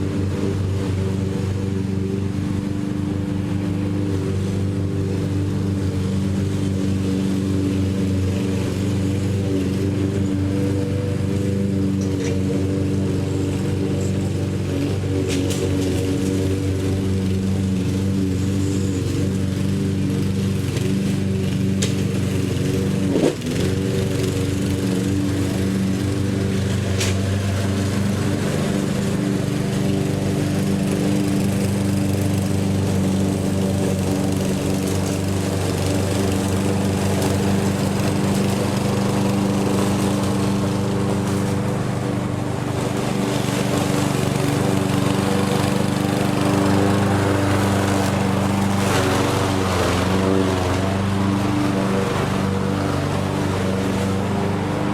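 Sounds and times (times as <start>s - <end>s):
lawn mower engine running: 0.0s - 54.9s.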